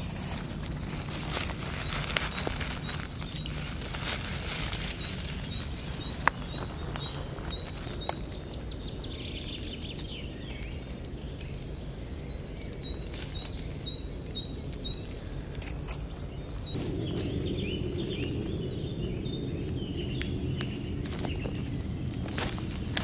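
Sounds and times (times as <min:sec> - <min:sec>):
low outdoor rumble: 0:00.0 - 0:23.0
songbird chirping: 0:00.0 - 0:23.0.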